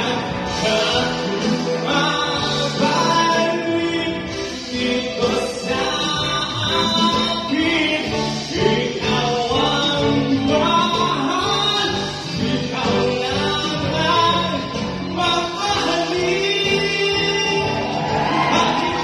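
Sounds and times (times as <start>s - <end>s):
amplified band playing: 0.0s - 19.0s
man singing into a microphone: 0.0s - 19.0s.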